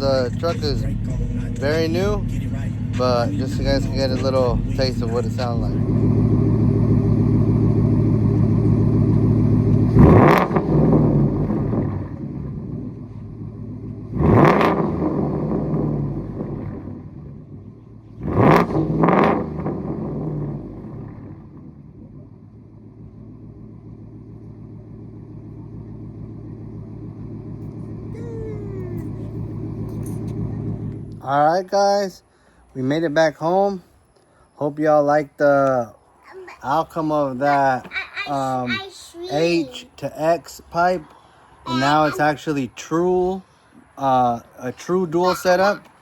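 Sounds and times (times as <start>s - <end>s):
truck engine idling and revving: 0.0s - 34.3s, 35.0s - 46.0s.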